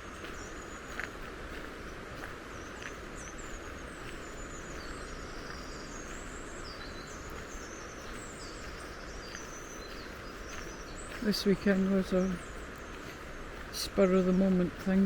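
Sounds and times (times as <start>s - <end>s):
flowing river water: 0.0s - 15.0s
songbirds twittering: 0.0s - 15.0s.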